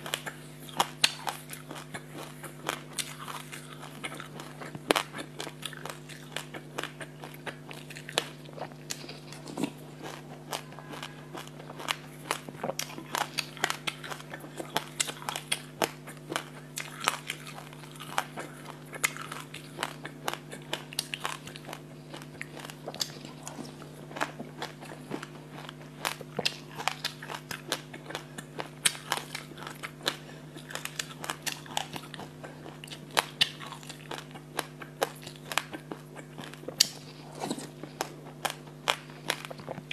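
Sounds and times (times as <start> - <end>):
seeds crunched and chewed: 0.0 - 39.9
steady low hum: 0.0 - 39.9.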